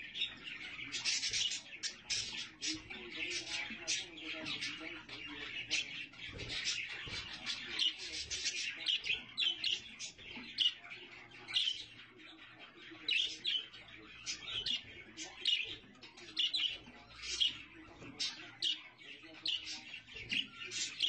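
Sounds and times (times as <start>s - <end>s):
budgerigars chirping: 0.0s - 21.0s.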